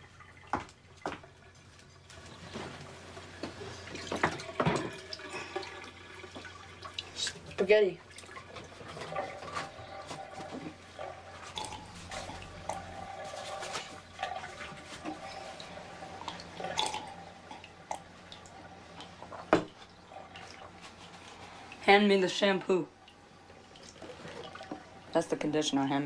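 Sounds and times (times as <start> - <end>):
bathwater splashing and dripping: 0.0 - 26.0.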